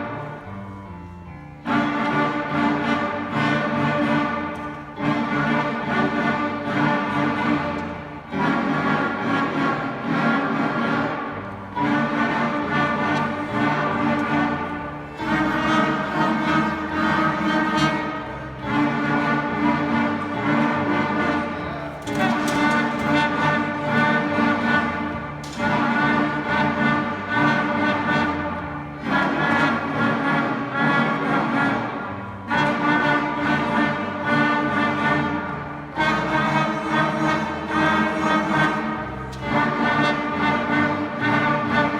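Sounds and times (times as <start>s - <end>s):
string orchestra playing: 0.0s - 41.9s.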